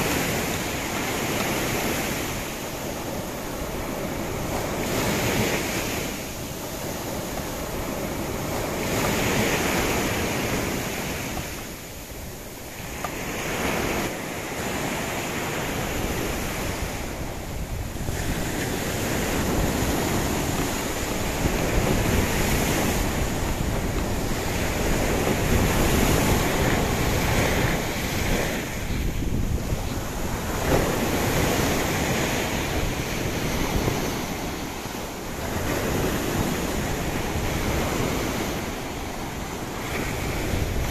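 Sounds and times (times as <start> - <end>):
storm surf breaking on beach: 0.0 - 40.9
wind buffeting microphone: 0.0 - 40.9.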